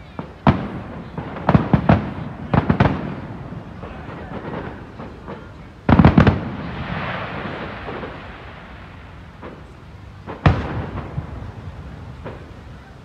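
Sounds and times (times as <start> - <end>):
firework shells bursting: 0.0 - 12.7.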